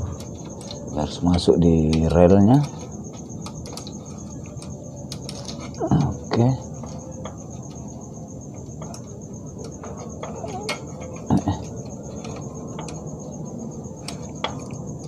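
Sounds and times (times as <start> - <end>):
high insect chirping: 0.0 - 15.0.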